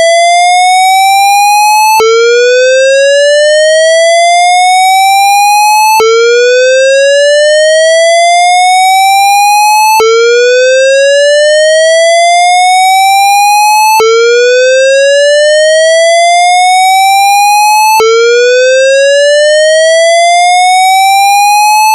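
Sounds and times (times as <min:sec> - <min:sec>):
fire alarm whoop tone: 0:00.0 - 0:21.9.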